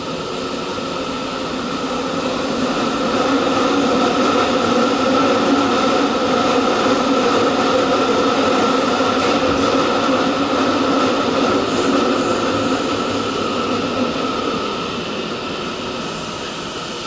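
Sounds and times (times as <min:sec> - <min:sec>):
subway train rumbling hum: 0:00.0 - 0:17.0.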